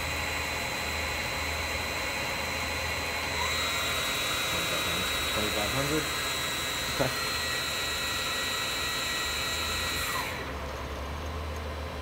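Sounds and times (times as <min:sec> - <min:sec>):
lathe high whine: 0:00.0 - 0:10.9.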